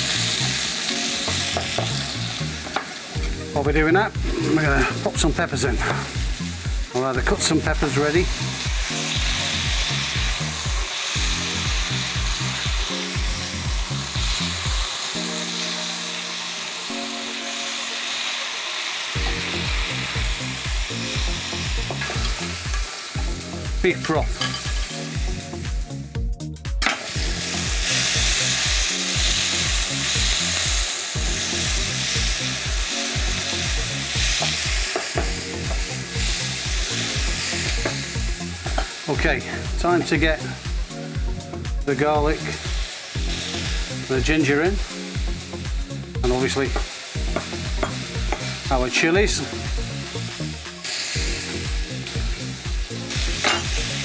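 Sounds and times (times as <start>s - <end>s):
background music with bass: 0.0s - 15.9s, 19.2s - 54.0s
onions sizzling in a pan: 0.0s - 26.1s, 26.8s - 54.0s.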